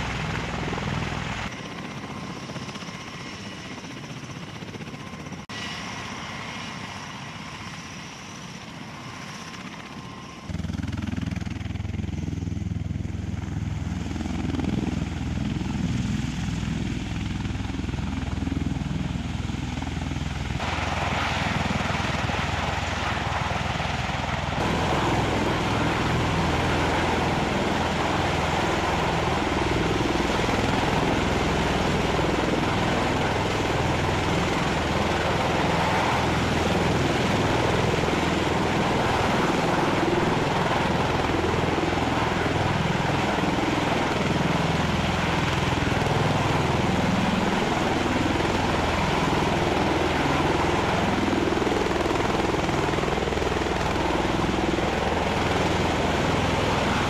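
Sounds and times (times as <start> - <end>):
tiltrotor aircraft hovering: 0.0 - 57.0.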